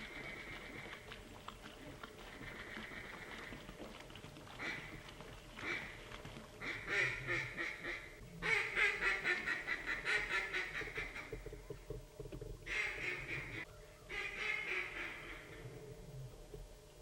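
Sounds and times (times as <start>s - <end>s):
ducks quacking: 0.0s - 6.0s, 6.6s - 11.4s, 12.7s - 15.6s.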